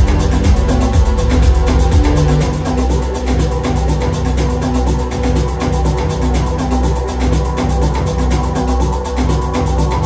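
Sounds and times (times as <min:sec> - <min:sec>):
music with fast beat and deep bass: 0:00.0 - 0:10.0.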